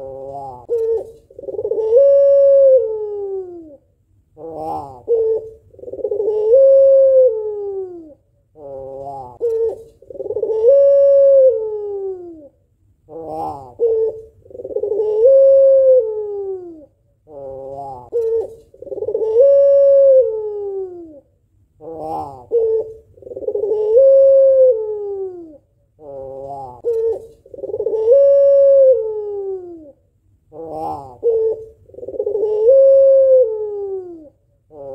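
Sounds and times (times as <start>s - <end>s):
dove cooing: 0.0s - 3.8s, 4.4s - 34.9s.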